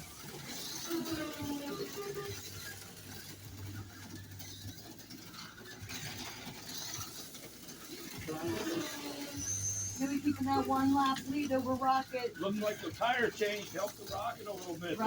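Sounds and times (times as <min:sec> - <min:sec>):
slot car motors whirring: 0:00.0 - 0:15.0.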